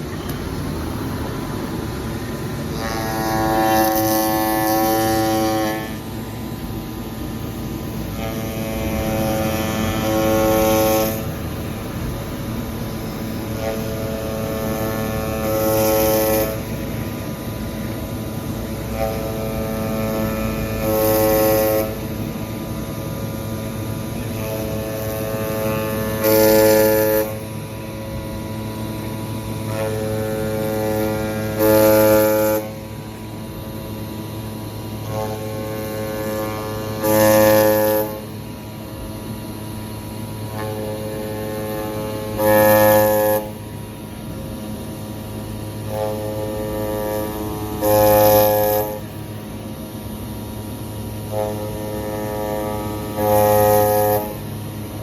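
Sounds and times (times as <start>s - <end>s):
cnc router humming: 0.0s - 55.0s
high-pitched router surge: 0.0s - 55.0s.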